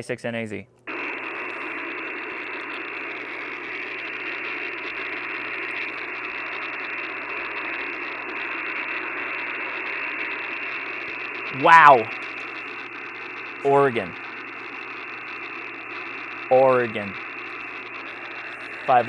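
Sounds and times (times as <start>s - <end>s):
radio static hiss: 0.9s - 19.0s.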